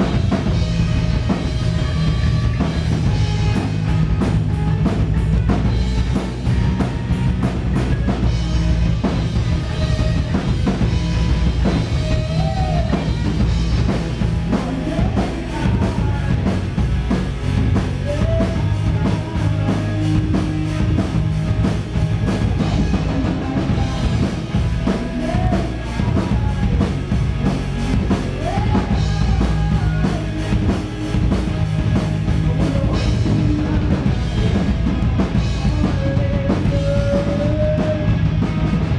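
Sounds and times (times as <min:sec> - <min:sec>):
drum kit beat: 0:00.0 - 0:38.9
electric guitars: 0:00.0 - 0:38.9
pitch-bending guitar lines: 0:00.0 - 0:38.9.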